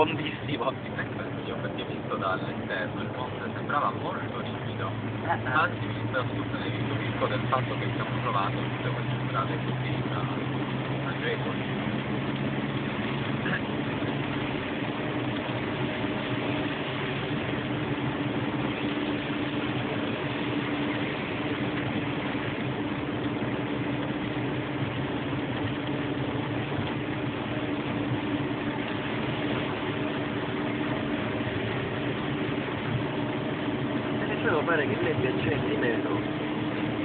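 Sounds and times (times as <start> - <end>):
low engine hum: 0.0 - 37.0.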